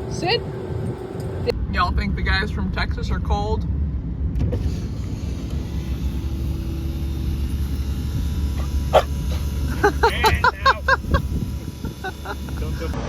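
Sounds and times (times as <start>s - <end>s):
idling machinery rumble: 0.0s - 13.0s.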